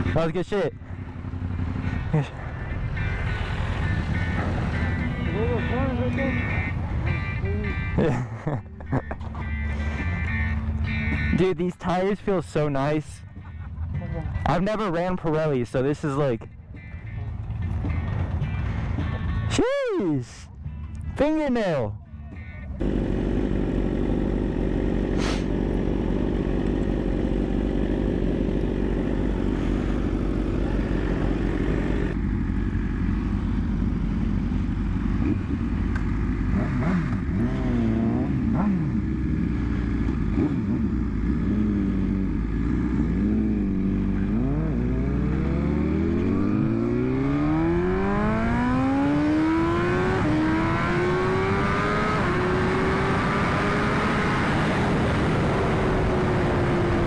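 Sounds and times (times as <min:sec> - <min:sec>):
motorcycle engine revving: 0:00.0 - 0:11.5, 0:22.8 - 0:57.0.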